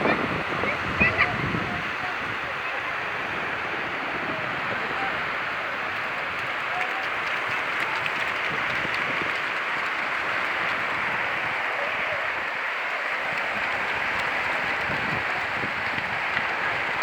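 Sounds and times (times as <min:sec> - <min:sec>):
sea water foaming on shore: 0:00.0 - 0:17.0.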